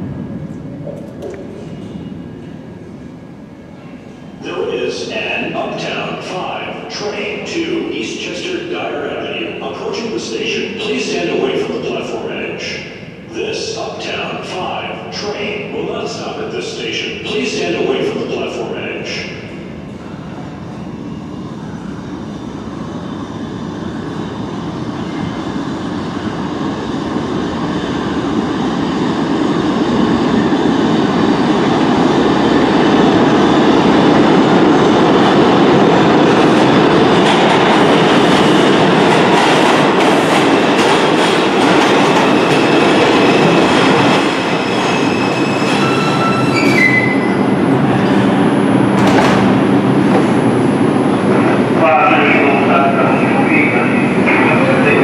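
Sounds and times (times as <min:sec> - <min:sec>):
subway train rumble and wheel noise: 0:00.0 - 0:55.0.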